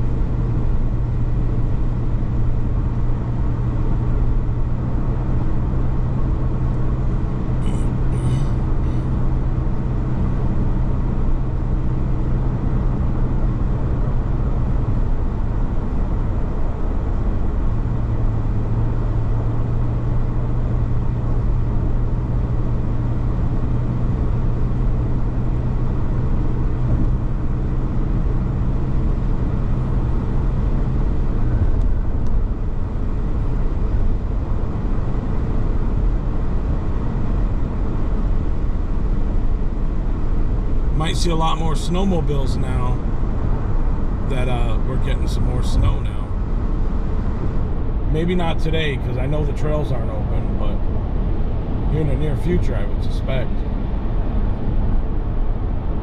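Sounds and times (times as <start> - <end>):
car road noise: 0.0 - 56.0
low hum: 0.0 - 56.0.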